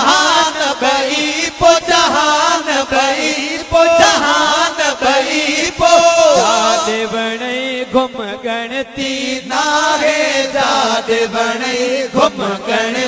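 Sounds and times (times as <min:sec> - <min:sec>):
men chanting: 0:00.0 - 0:13.0.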